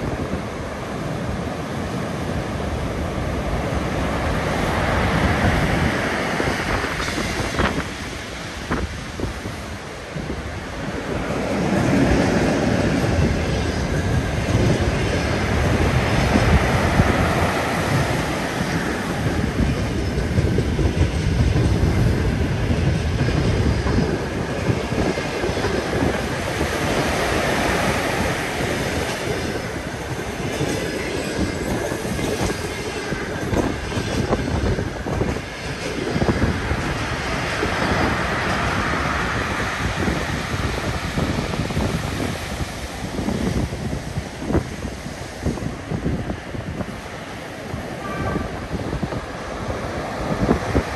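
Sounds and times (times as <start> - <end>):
wave crashing: 0.0 - 20.5, 24.2 - 30.4, 36.0 - 50.9
surf rumbling: 0.0 - 50.9.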